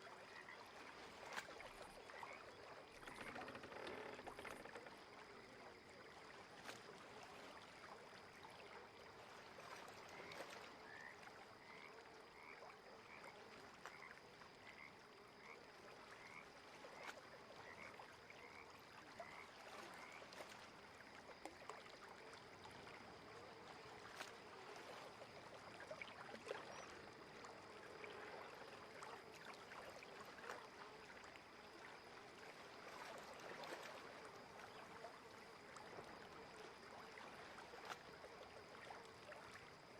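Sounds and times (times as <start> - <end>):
soft water hiss: 0.0 - 39.9.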